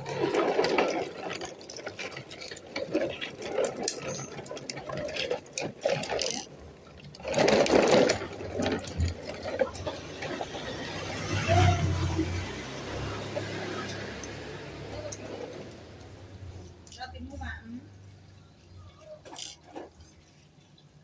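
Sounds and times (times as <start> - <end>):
small mechanism whirring and rattling: 0.0 - 16.3, 19.0 - 20.4.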